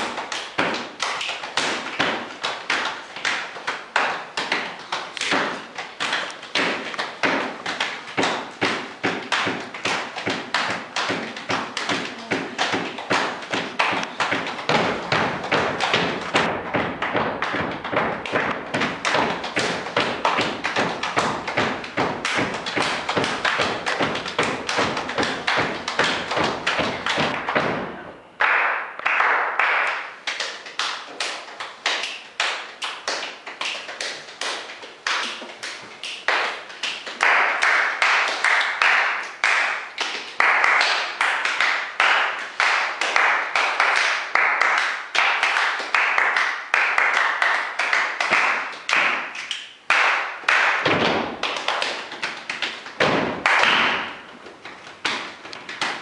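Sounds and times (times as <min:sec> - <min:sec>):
hand claps: 0:00.0 - 0:56.0.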